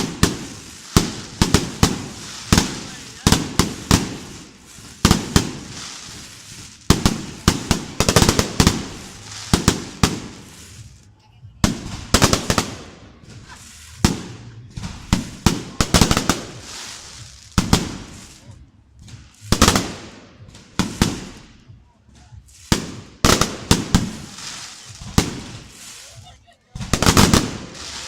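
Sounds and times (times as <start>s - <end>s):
fireworks bursting with bangs: 0.0s - 28.0s.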